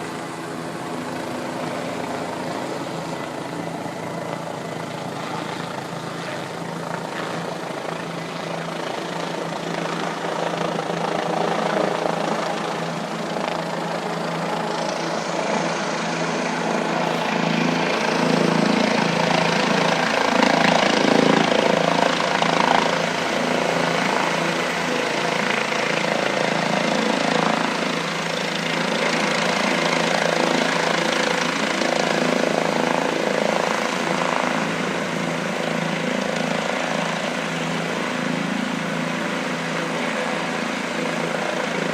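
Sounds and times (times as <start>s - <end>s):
helicopter engine and rotor: 0.0s - 41.9s.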